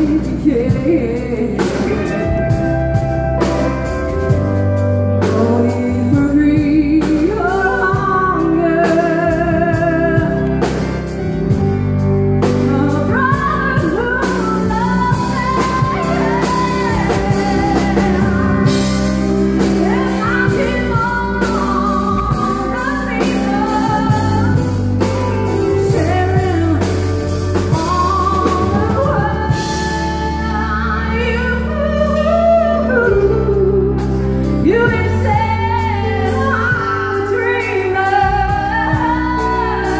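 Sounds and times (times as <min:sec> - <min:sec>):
woman singing into a microphone: 0:00.0 - 0:03.5, 0:05.1 - 0:10.9, 0:12.4 - 0:39.9
keyboard with bass and beat: 0:00.0 - 0:39.9.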